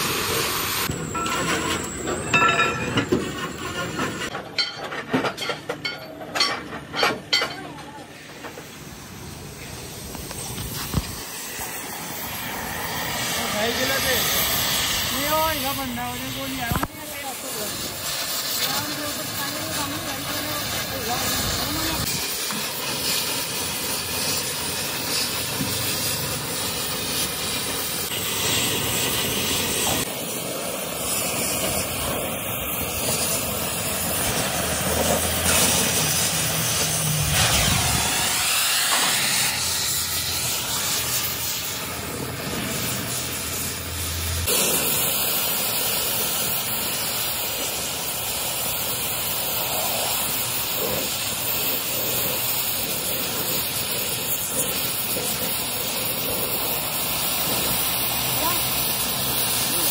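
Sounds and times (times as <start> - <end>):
cutting torch hissing: 0.0 - 4.3, 8.0 - 59.9.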